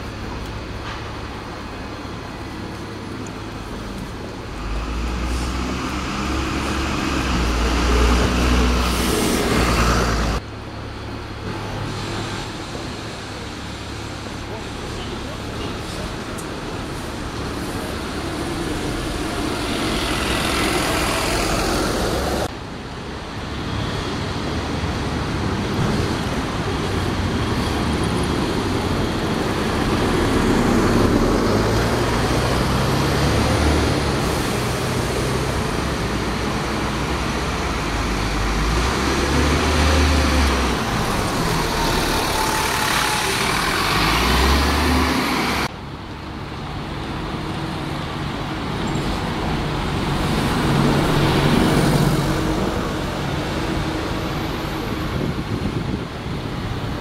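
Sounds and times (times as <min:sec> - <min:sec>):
bus engines rumbling: 0:00.0 - 0:57.0
street traffic: 0:00.0 - 0:57.0.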